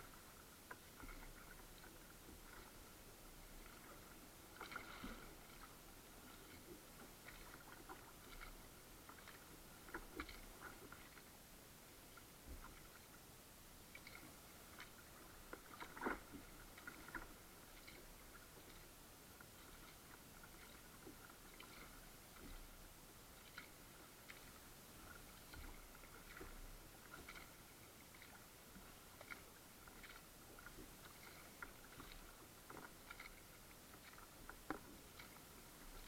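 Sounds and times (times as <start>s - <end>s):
kayak paddle splashes and drips: 0.0s - 11.3s, 13.9s - 36.0s.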